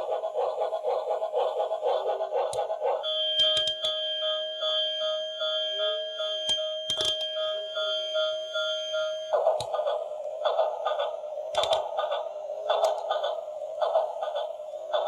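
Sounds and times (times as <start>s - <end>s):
pulsing electronic beeping: 0.0s - 15.0s.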